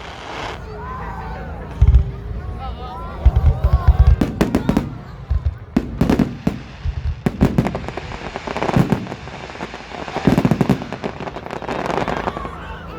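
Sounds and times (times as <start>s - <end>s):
fireworks bangs and crackling: 0.0s - 12.9s.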